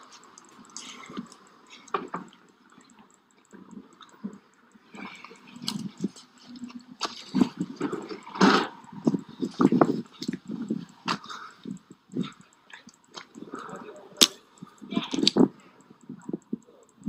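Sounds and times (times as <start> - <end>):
phone handling clicks and rustles: 0.0 - 16.6.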